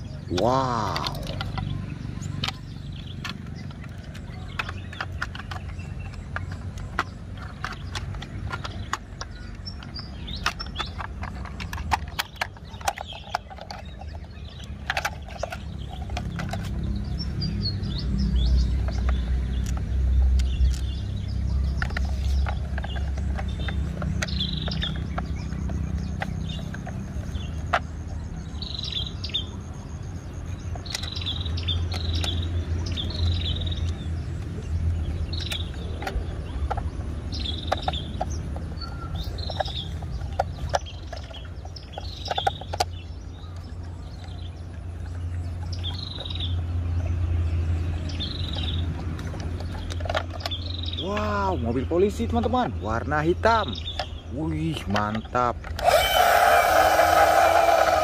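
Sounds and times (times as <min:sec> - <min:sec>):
bird chirping: 0:00.0 - 0:58.0.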